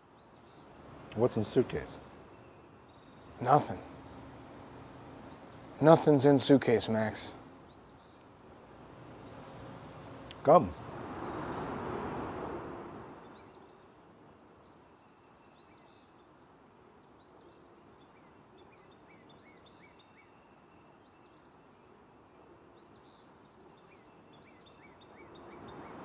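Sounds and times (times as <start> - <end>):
low hiss: 0.0 - 26.0
small birds chirping: 0.0 - 26.0.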